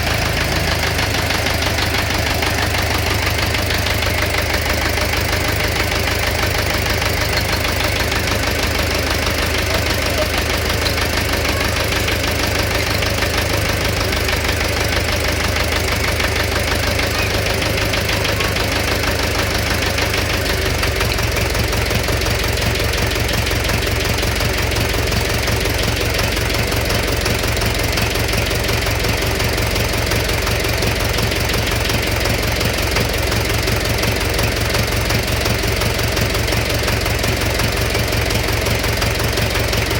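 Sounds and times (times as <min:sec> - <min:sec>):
engine idling with a knock: 0:00.0 - 0:39.9.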